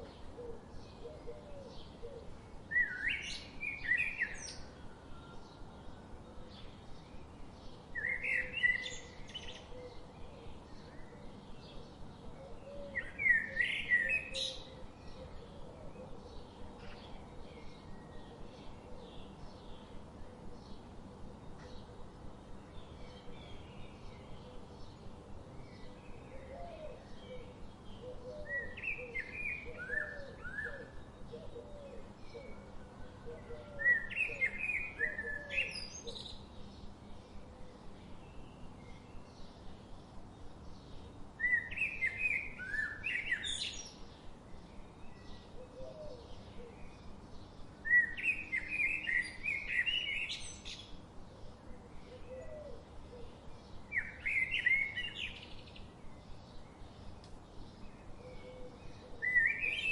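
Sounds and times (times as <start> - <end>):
faint bird chirping: 0.0 - 59.9.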